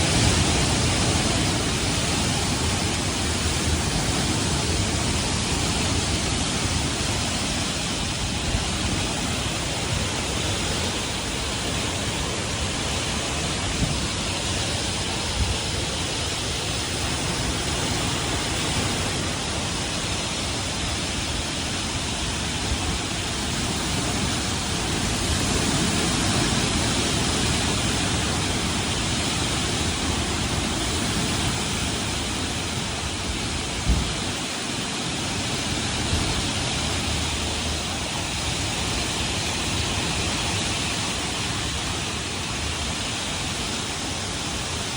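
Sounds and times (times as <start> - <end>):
strong wind buffeting microphone: 0.0 - 44.9.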